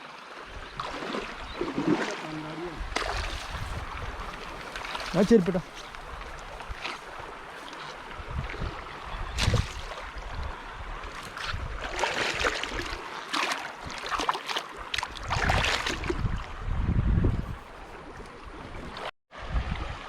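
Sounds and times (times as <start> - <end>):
river water splashing: 0.0 - 16.6
wind rumbling on microphone: 0.5 - 13.0, 15.1 - 20.0.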